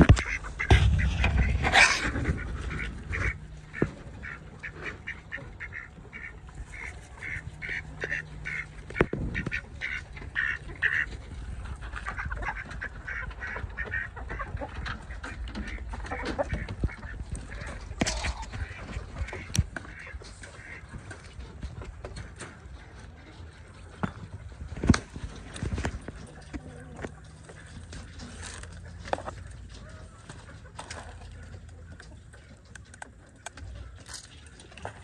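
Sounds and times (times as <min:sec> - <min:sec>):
ducks quacking: 0:00.0 - 0:35.0.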